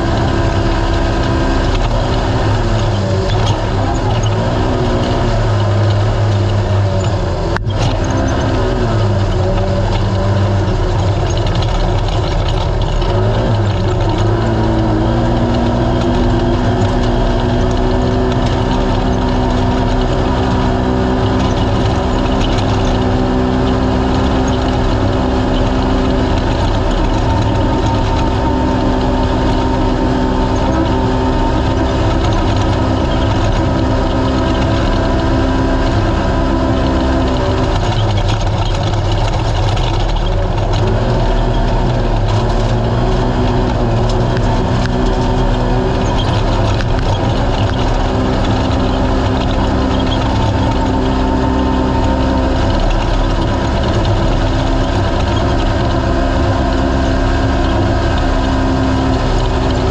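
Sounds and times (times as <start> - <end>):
race engine running loud: 0.0 - 59.9.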